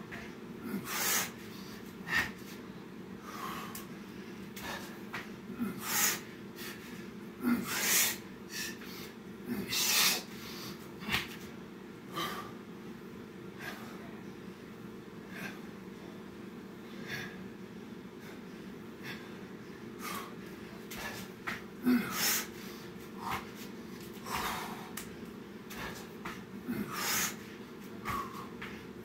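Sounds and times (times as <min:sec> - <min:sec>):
steady low hum: 0:00.0 - 0:29.0
man breathing hard: 0:00.1 - 0:11.4, 0:12.1 - 0:12.7, 0:13.5 - 0:14.1, 0:16.8 - 0:29.0.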